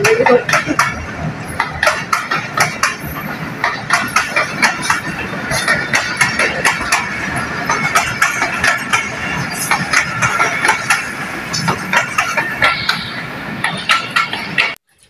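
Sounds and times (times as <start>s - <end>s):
train rumbling past: 0.0s - 15.0s
wheels clicking over rail joints: 0.0s - 15.0s.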